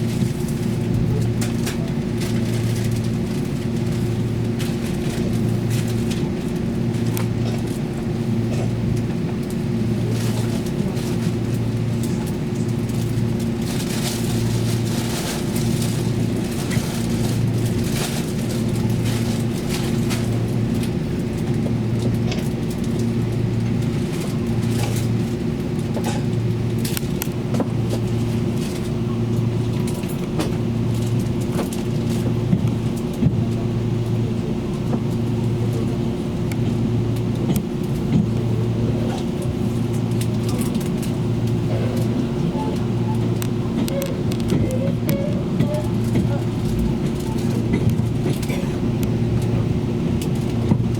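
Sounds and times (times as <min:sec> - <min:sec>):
train running low throbbing hum: 0:00.0 - 0:50.9.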